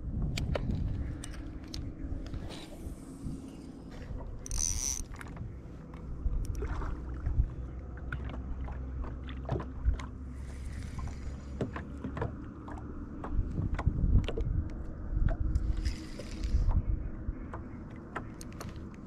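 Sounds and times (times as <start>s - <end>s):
water lapping against boat hull: 0.0s - 19.0s
wind rumble on microphone: 0.0s - 19.0s.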